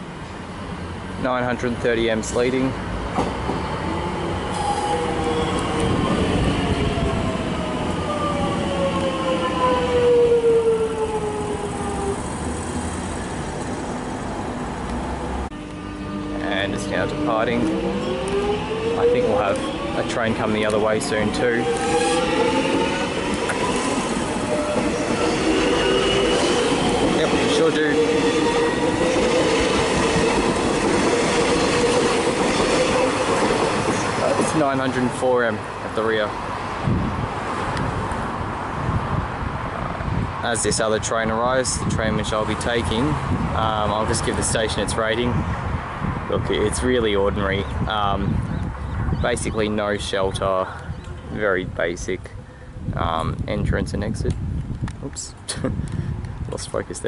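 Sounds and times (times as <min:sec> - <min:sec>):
train wheels rumbling on track: 0:01.6 - 0:15.6, 0:16.4 - 0:48.5.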